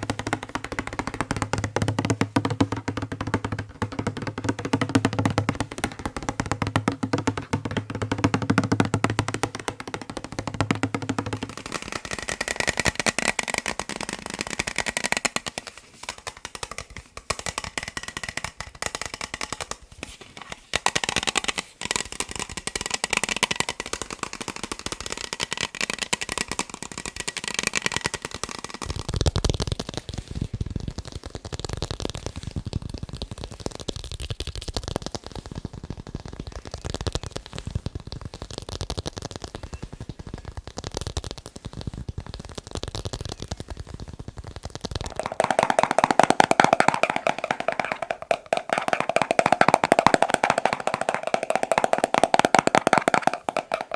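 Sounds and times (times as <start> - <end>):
rapid tapping on objects: 0.0 - 53.9.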